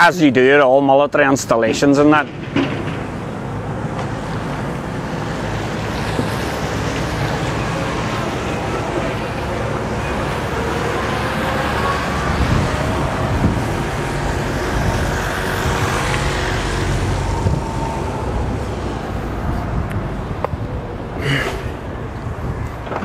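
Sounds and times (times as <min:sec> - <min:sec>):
road traffic rumbling: 0:00.0 - 0:23.0.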